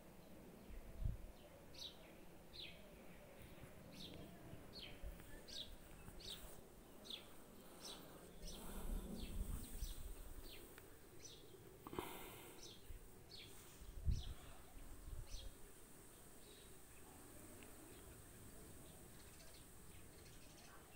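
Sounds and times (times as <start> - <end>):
low outdoor rumble: 3.1 - 20.6.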